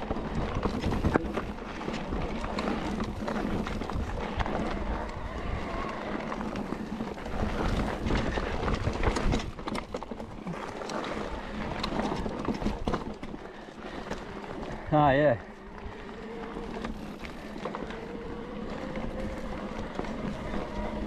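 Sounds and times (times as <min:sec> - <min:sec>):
mountain bike rattling on rocks: 0:00.0 - 0:21.0.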